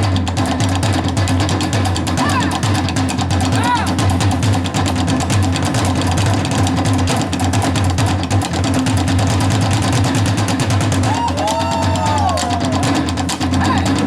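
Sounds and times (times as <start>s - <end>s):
drums playing fast rhythm: 0.0s - 14.0s.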